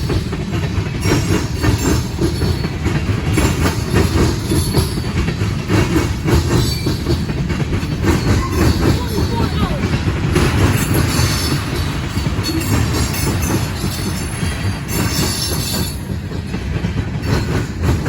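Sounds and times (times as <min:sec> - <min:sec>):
freight train rumbling: 0:00.0 - 0:18.0
train wheels clacking: 0:00.0 - 0:18.0.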